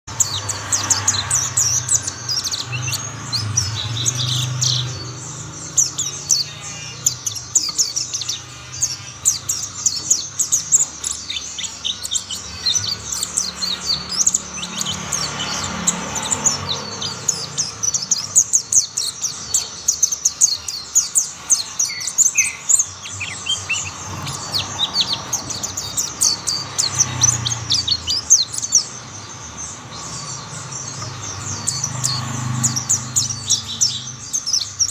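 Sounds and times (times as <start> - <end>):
birds twittering: 0.1 - 34.9.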